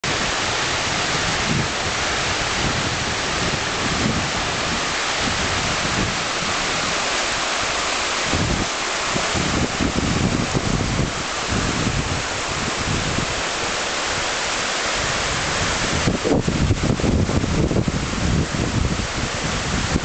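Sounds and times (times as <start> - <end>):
river rushing over rapids: 0.0 - 20.0
wind buffeting microphone: 0.0 - 20.0.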